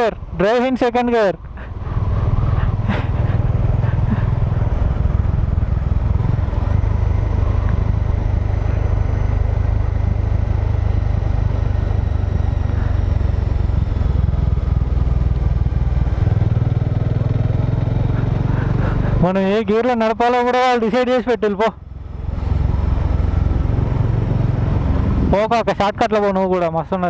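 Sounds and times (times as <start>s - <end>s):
motorcycle coasting wind and road noise: 0.0s - 27.0s.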